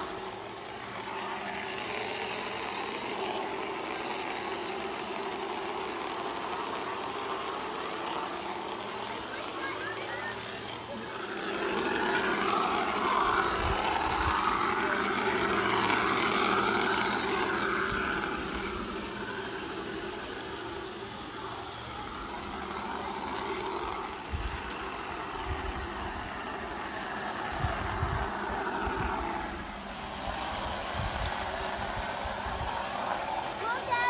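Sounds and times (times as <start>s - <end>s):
model train rolling rumble: 0.0s - 34.0s.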